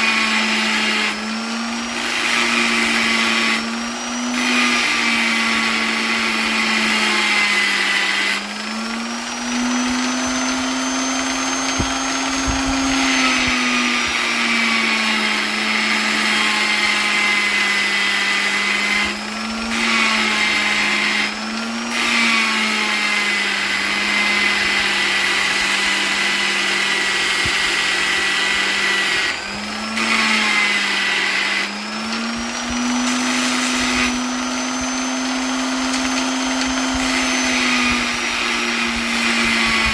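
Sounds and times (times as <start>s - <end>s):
electric polisher motor hum: 0.0s - 39.9s.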